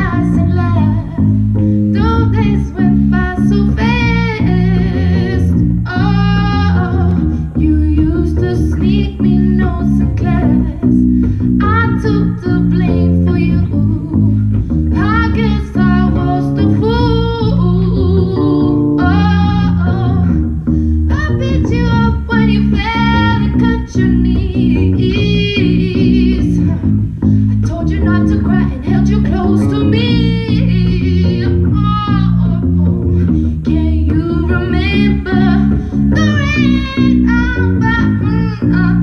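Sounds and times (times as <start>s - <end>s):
electric guitar: 0.0s - 39.0s
woman singing: 0.0s - 39.0s.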